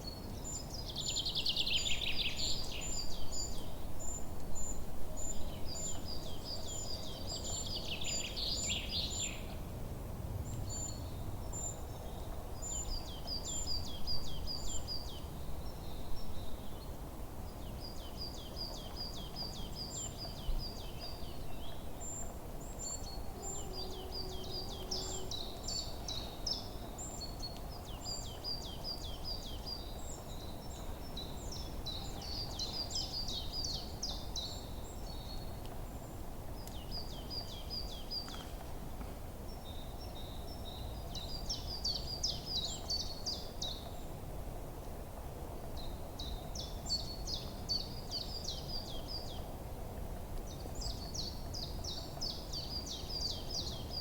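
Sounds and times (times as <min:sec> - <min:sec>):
songbirds chirping: 0:00.0 - 0:09.8, 0:10.4 - 0:54.0.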